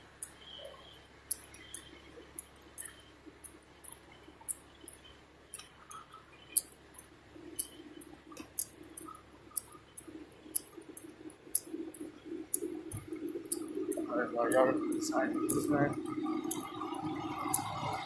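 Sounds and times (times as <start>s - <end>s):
faint irregular clicks: 0.0s - 18.0s
low hum: 0.0s - 18.0s
sharp clicks: 0.1s - 18.0s.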